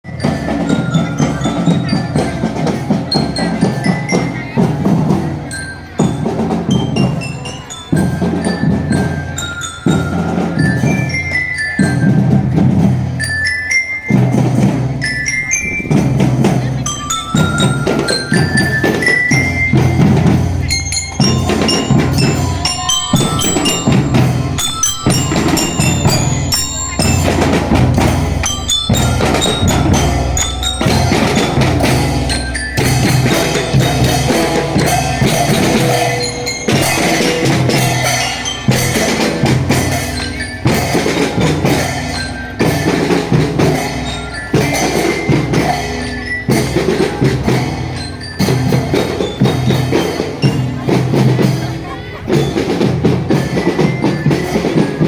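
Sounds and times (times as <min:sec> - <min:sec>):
bell-lyre melody: 0:00.0 - 0:55.0
marching drums and snare: 0:00.0 - 0:55.0.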